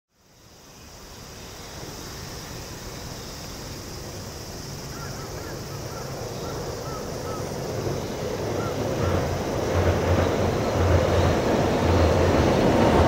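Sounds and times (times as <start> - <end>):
freight train rumble: 1.4 - 13.0.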